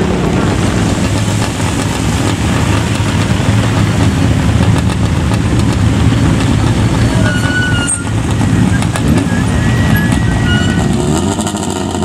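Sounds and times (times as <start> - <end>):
racing car engine running: 0.0 - 12.0.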